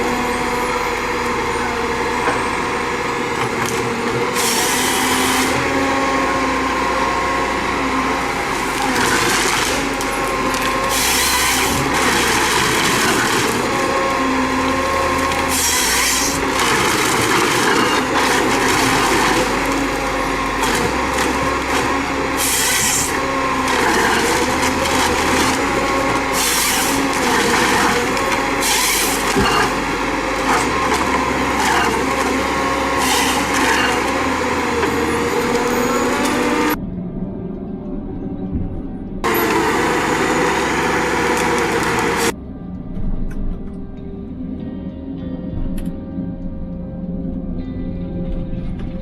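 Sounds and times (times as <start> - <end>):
machine cutting wood: 0.0 - 36.8, 39.2 - 42.4
engine running: 0.0 - 49.0.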